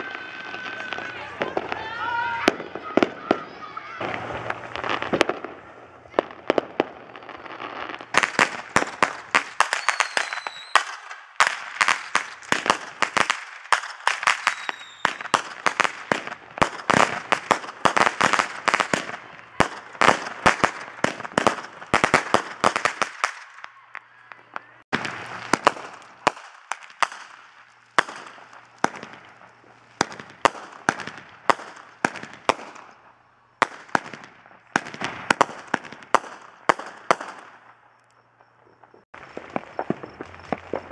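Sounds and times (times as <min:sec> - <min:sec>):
fireworks cracking and popping: 0:00.0 - 0:40.9
falling firework whistles: 0:07.2 - 0:40.9.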